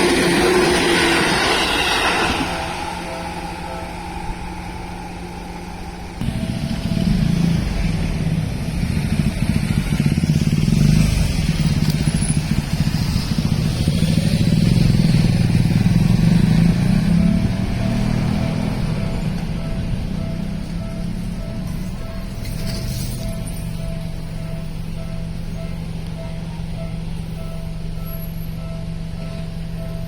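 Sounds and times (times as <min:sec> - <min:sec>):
electric train passing: 0:00.0 - 0:30.0
train wheels rumbling on rails: 0:00.0 - 0:30.0.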